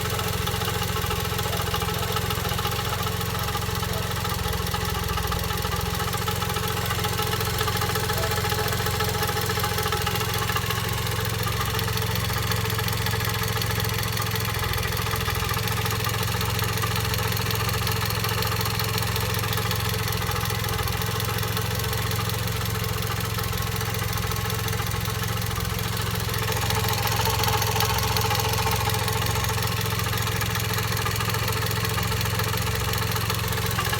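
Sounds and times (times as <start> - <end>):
car engine idling with vibrating noise: 0.0 - 33.9.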